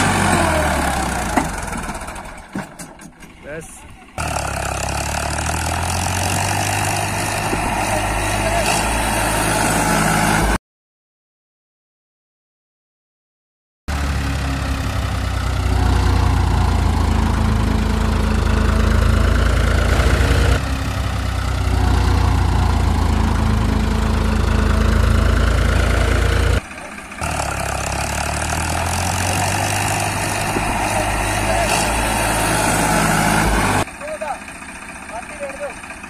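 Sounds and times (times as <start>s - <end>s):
tractor engine throbbing: 0.0s - 10.6s, 13.9s - 36.0s.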